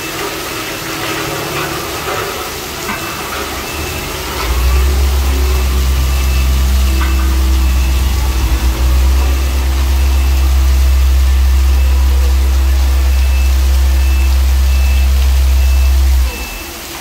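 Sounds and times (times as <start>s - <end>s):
asphalt roller humming: 0.0s - 17.0s
heavy rain falling: 0.0s - 17.0s.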